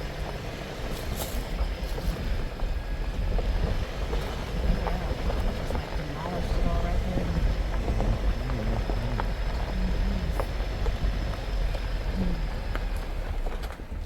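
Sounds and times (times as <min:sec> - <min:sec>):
off-road vehicle engine rumble: 0:00.0 - 0:14.0.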